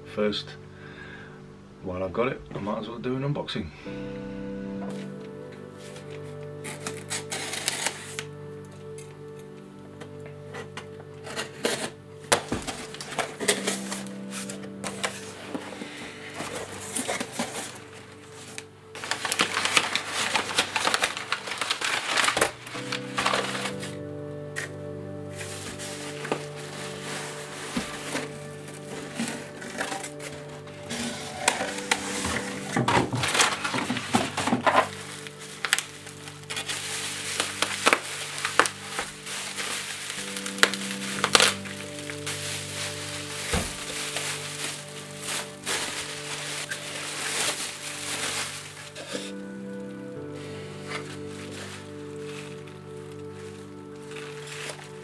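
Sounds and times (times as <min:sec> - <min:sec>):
soft background music: 0:00.0 - 0:55.0
bubble wrap crinkling: 0:04.8 - 0:55.0
packing paper rustling: 0:04.9 - 0:55.0.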